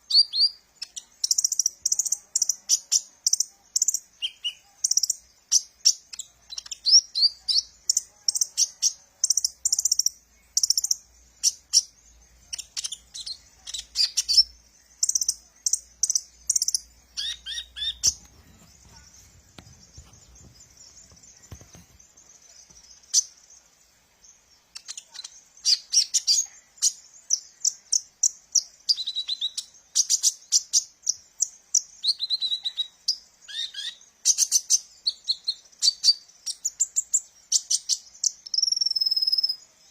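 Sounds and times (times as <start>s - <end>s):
sunbird singing high chirps: 0.0s - 39.9s.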